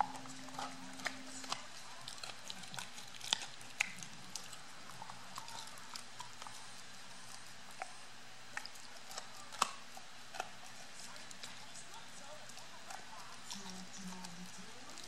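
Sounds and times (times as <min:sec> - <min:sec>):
dog gnawing rawhide chew: 0:00.0 - 0:15.0.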